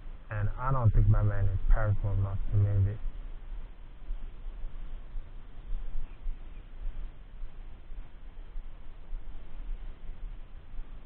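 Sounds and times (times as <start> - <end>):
faint steady hiss: 0.0 - 11.0
uneven low rumble: 0.0 - 11.0.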